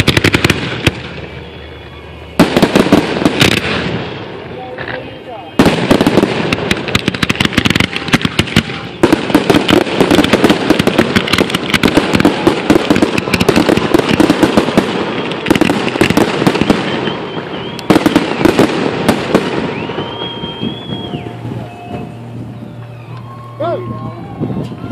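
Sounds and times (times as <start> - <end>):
fireworks bangs: 0.0 - 24.9
fireworks crackling: 0.0 - 24.9.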